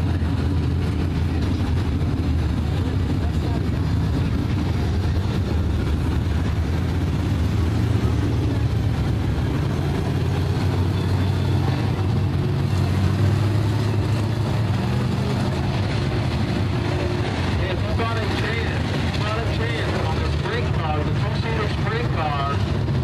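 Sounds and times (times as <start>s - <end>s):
race car engines running: 0.0s - 23.0s.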